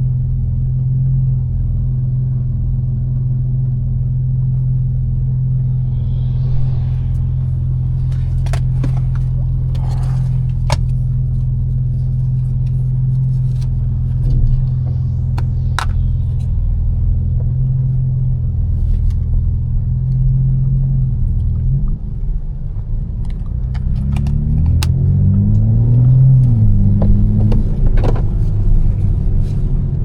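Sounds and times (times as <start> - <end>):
car engine droning at cruise: 0.0 - 30.0.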